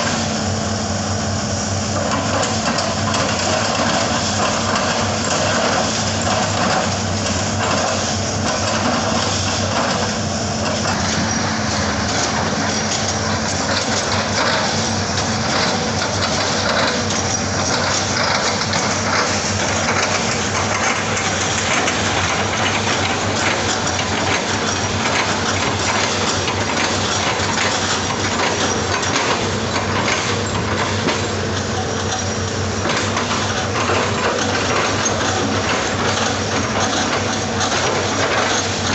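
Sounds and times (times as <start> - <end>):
excavator diesel engine running: 0.0 - 38.9
rapid rattling and clicking: 2.0 - 38.9.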